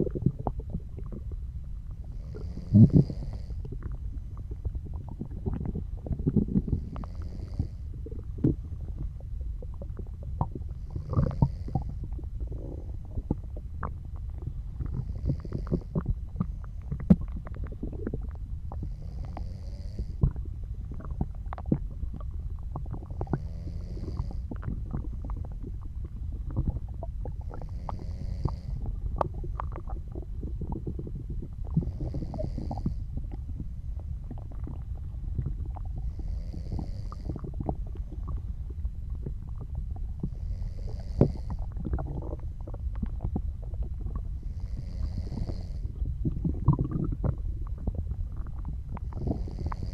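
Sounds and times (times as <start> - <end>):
stomach gurgling and rumbling: 0.0 - 49.9
soft snoring breaths: 2.0 - 38.4, 39.1 - 49.9.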